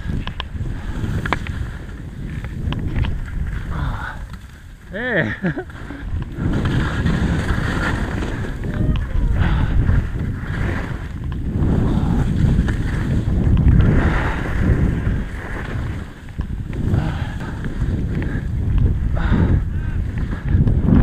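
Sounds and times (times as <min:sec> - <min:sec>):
skis scraping over snow: 0:00.0 - 0:19.0
wind buffeting microphone: 0:00.0 - 0:21.0.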